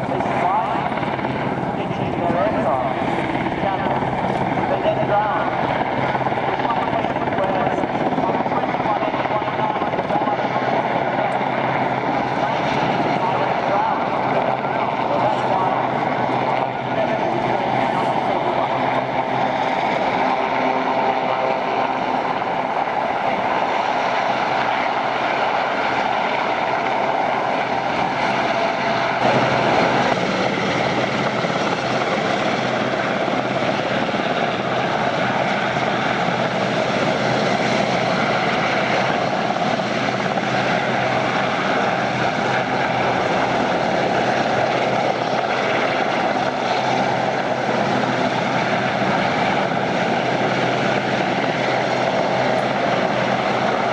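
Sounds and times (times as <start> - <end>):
helicopter hovering: 0.0 - 53.9.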